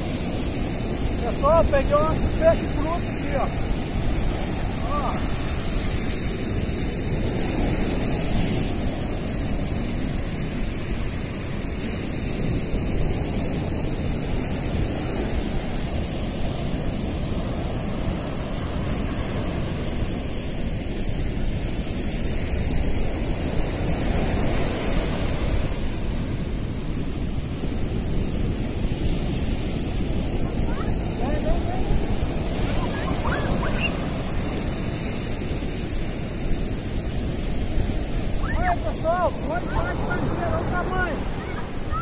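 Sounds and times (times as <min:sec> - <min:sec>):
ocean surf breaking: 0:00.0 - 0:42.0.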